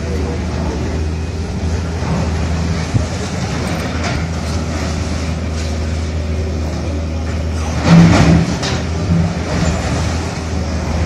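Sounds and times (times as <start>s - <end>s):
heavy diesel machinery running: 0.0s - 11.0s
truck engine running: 0.0s - 11.0s.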